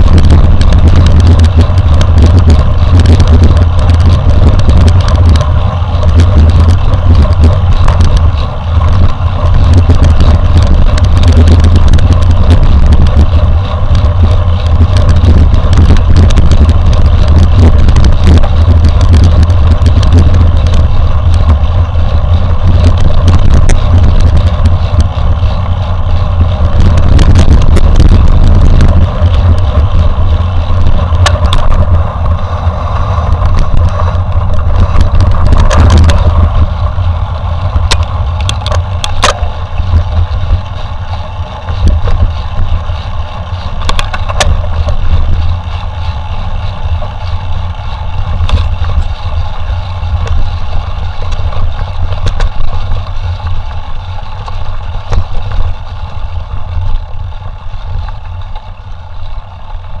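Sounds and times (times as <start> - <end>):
bike rattles and knocks: 0.0 - 60.0
wind buffeting microphone: 0.0 - 60.0.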